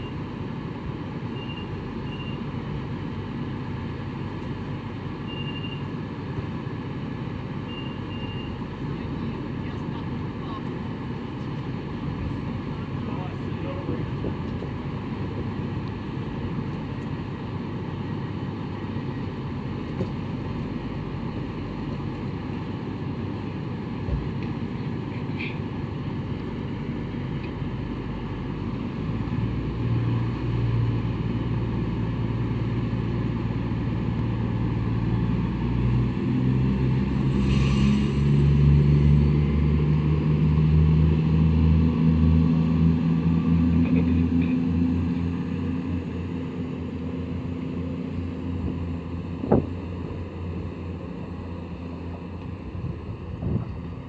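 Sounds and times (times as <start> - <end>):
train diesel engines revving: 0.0 - 54.0.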